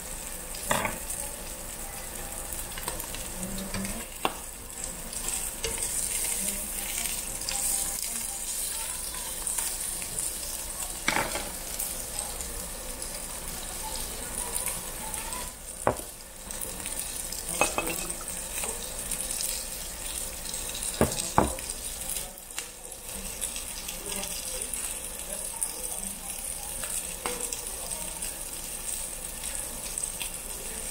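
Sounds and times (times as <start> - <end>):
meat sizzling on grill plate: 0.0 - 30.9.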